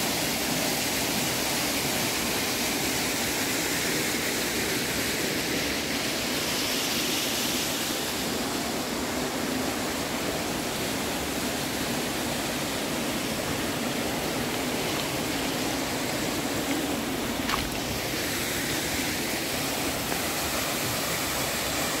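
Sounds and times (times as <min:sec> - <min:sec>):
stream splashing over rocks: 0:00.0 - 0:22.0.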